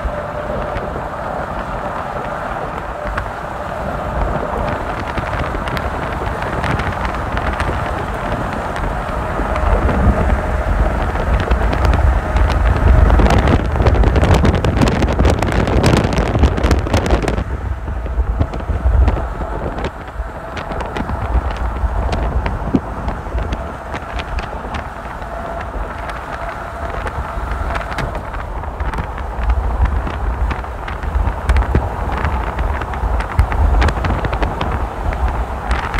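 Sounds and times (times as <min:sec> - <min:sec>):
dense crackles and clicks: 0:00.0 - 0:35.9
vehicle running rumble: 0:00.0 - 0:35.9
wind buffeting microphone: 0:00.0 - 0:35.9.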